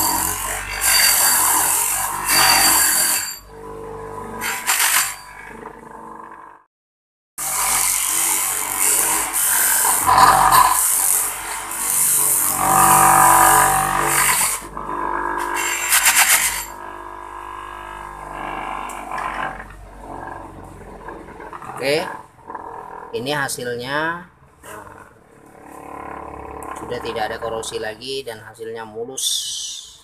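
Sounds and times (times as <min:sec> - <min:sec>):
electric bench motor running: 0:00.0 - 0:04.5, 0:05.2 - 0:06.6, 0:07.4 - 0:23.3, 0:24.7 - 0:27.8.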